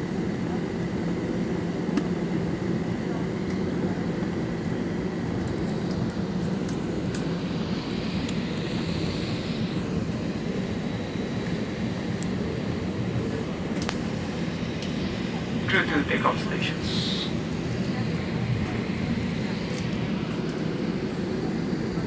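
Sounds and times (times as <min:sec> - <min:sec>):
airliner engine drone: 0:00.0 - 0:22.0.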